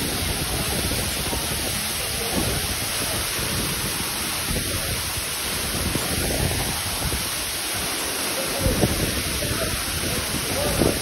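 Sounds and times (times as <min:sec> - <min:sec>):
waterfall crashing onto rocks: 0:00.0 - 0:11.0.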